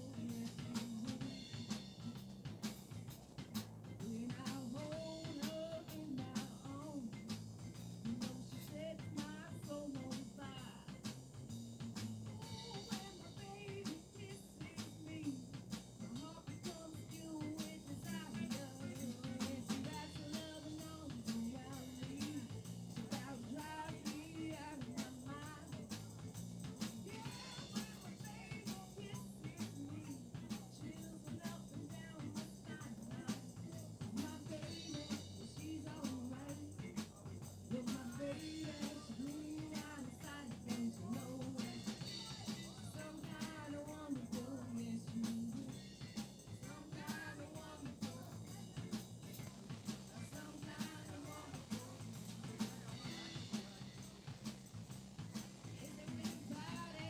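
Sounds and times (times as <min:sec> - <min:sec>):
drums keeping steady beat: 0:00.0 - 0:57.0.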